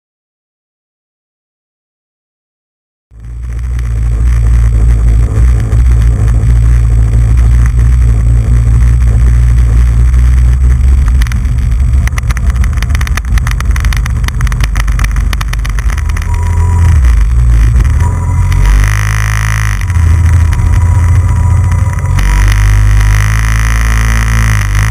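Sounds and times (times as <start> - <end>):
crackling: 3.1 - 24.9
wind rumble on microphone: 3.1 - 24.9
jet ski engine drone: 3.2 - 24.9.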